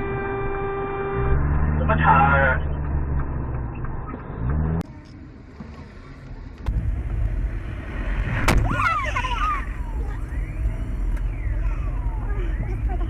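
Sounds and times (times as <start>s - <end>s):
car engine: 0.0s - 13.0s
road noise: 0.0s - 13.0s.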